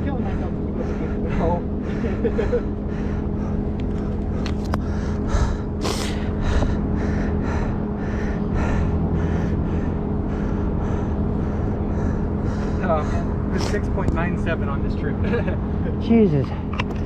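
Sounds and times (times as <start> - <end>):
engine hum: 0.0 - 17.0
person panting hard: 0.2 - 13.9.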